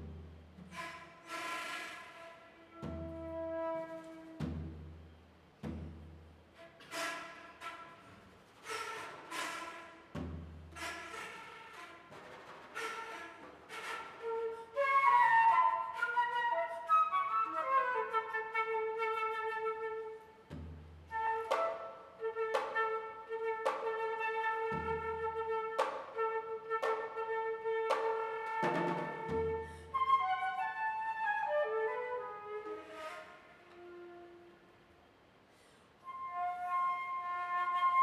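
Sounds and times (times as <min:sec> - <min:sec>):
flute playing: 0:00.7 - 0:04.4, 0:06.6 - 0:20.4, 0:21.1 - 0:35.0, 0:36.0 - 0:38.0.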